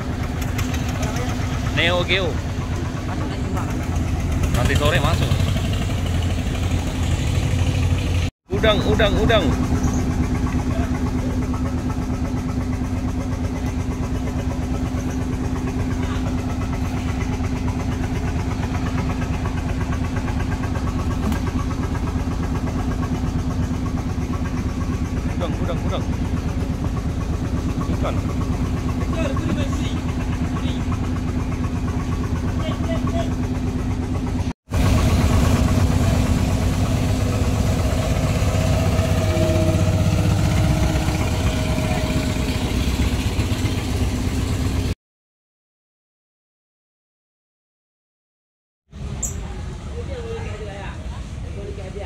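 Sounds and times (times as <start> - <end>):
boat engine idling: 0.0 - 45.0.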